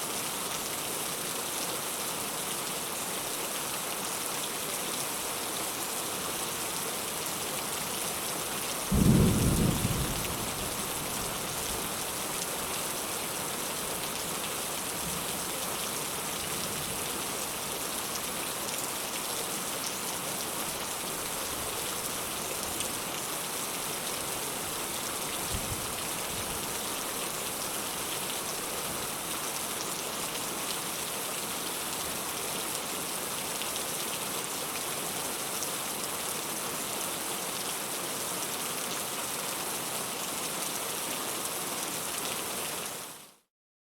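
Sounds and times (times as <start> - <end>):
steady rain: 0.0 - 43.5.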